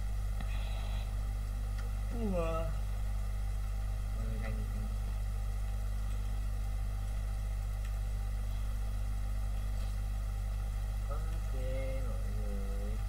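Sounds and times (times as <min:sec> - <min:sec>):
constant hiss: 0:00.0 - 0:13.0
low electrical hum: 0:00.0 - 0:13.0.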